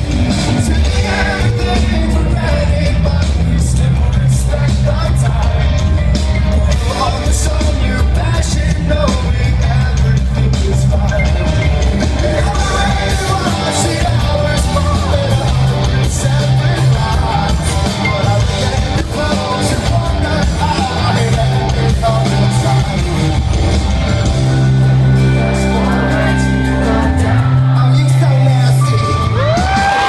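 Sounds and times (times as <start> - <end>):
lead vocal singing: 0.0 - 30.0
live rock band playing: 0.0 - 30.0.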